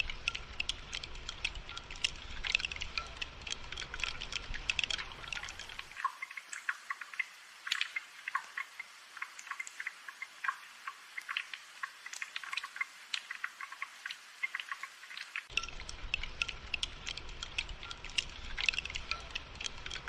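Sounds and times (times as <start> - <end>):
rain drops dripping and tapping: 0.0 - 20.0.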